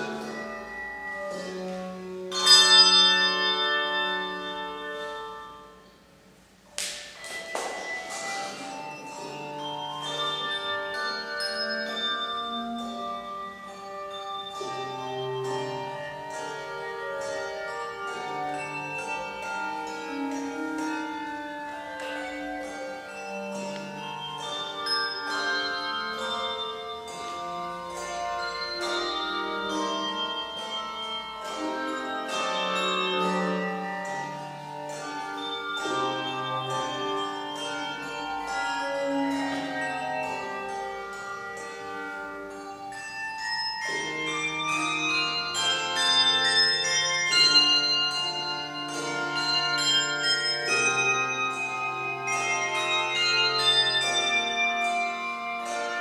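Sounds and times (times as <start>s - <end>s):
handbell choir ringing: 0.0s - 5.9s, 6.8s - 56.0s
deep bass bells: 0.0s - 6.1s, 6.8s - 56.0s.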